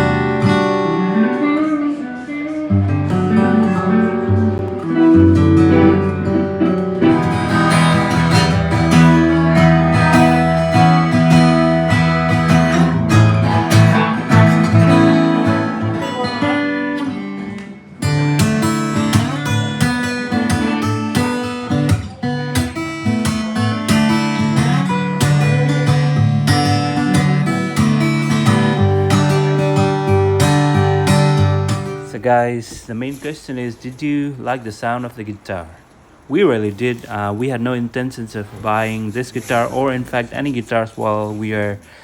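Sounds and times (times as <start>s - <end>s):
acoustic guitar playing: 0.0s - 36.2s.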